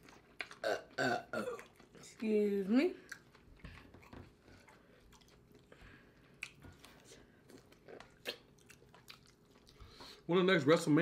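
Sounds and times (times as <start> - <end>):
chewing and biting food: 0.0 - 10.2.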